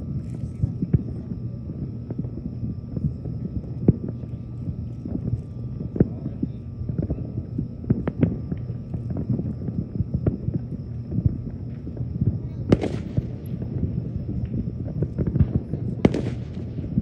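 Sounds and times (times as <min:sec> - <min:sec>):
distant fireworks popping: 0:00.0 - 0:17.0.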